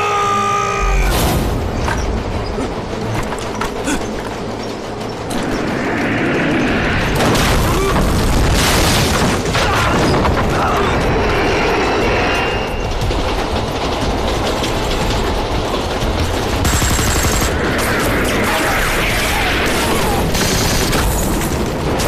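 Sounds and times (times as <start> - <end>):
battle explosions: 0.8 - 22.0.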